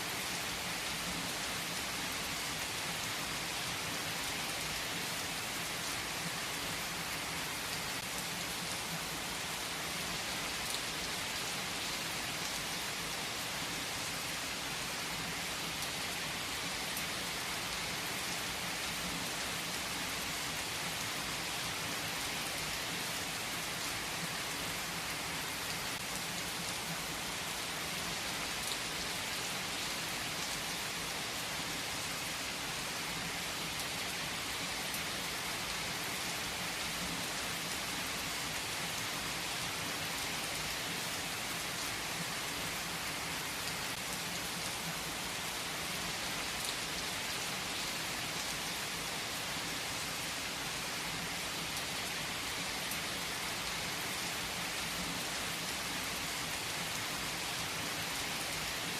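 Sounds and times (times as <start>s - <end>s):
rain falling on surfaces: 0.0s - 58.9s.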